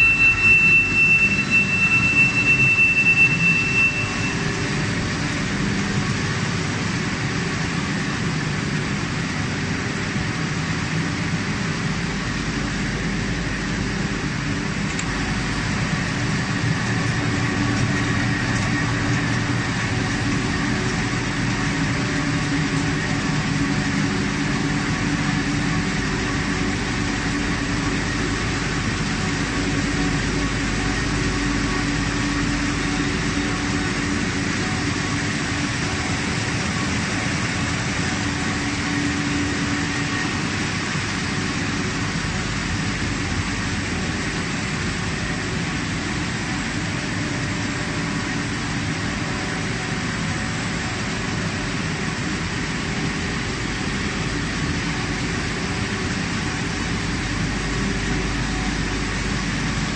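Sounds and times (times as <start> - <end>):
faint high whine: 0.0 - 59.9
printing press running: 11.8 - 59.9.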